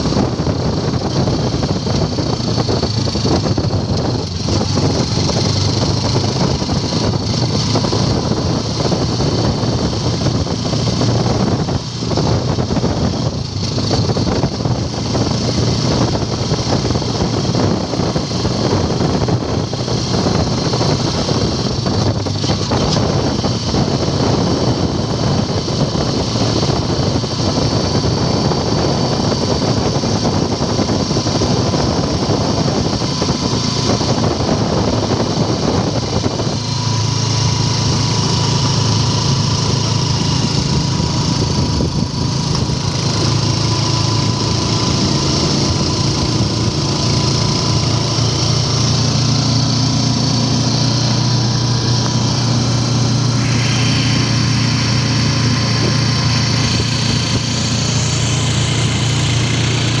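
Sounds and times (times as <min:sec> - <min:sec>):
motorcycle engine running: 0:00.0 - 1:00.0
road noise: 0:00.0 - 1:00.0
rushing wind: 0:00.0 - 1:00.0.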